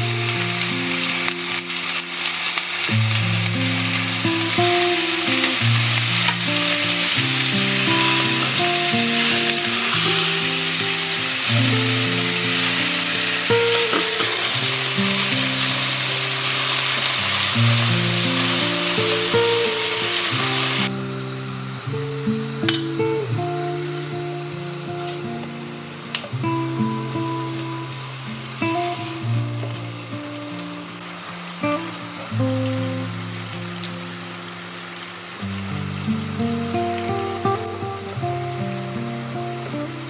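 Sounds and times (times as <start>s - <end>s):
soft melodic background music: 0.0s - 34.7s, 35.8s - 40.0s
food sizzling in a pan: 0.0s - 40.0s.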